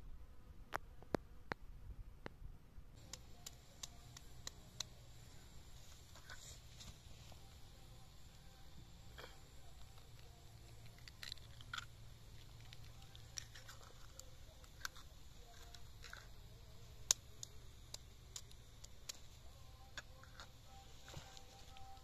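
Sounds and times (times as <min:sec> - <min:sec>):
low steady hum: 0:00.0 - 0:22.0
crackles and sharp clicks: 0:00.7 - 0:02.4, 0:03.0 - 0:22.0.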